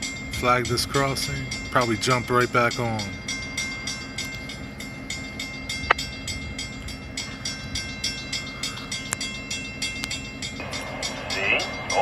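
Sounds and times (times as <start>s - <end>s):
crossing bell dinging: 0.0s - 12.0s
diesel locomotive rumbling: 0.0s - 12.0s.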